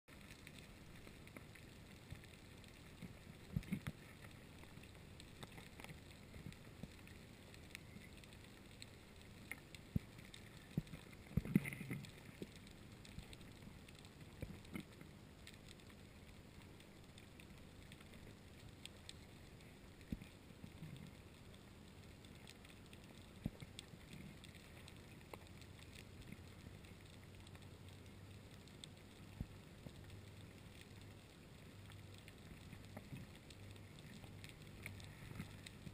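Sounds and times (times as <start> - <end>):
faint low hum: 0.1 - 35.9.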